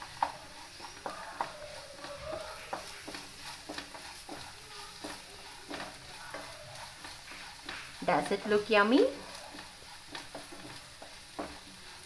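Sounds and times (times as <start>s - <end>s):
faint frying sizzle: 0.0s - 12.0s
spatula scraping a frying pan: 0.0s - 12.0s.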